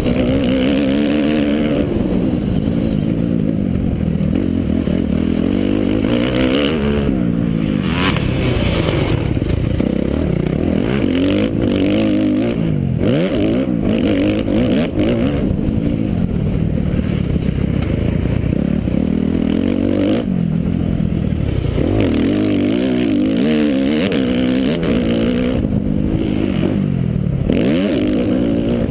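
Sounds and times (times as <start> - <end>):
motocross bike engine revving: 0.0 - 28.9.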